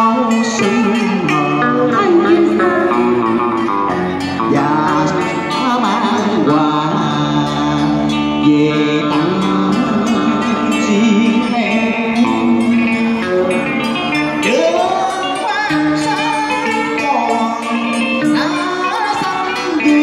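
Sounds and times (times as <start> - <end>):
instrumental accompaniment: 0.0 - 20.0
person singing with vibrato: 0.0 - 20.0.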